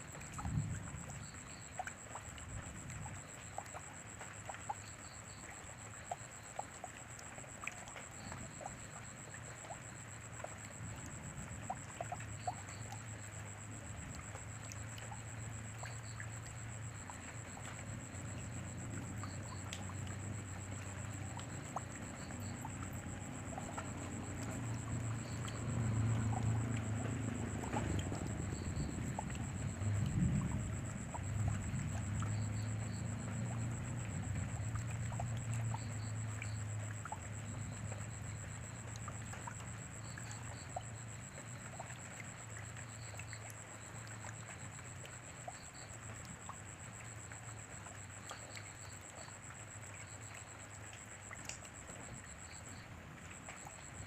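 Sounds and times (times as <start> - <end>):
rain: 0.0 - 54.0
raindrops ticking: 0.1 - 46.6, 47.4 - 52.8.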